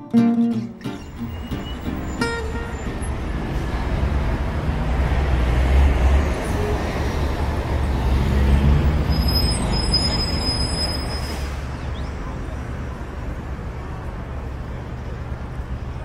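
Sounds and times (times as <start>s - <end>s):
road traffic rumble: 0.5s - 16.0s.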